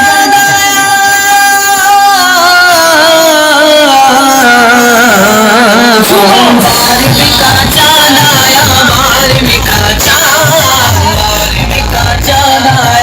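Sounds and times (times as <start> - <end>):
devotional music over loudspeakers: 0.0 - 13.0.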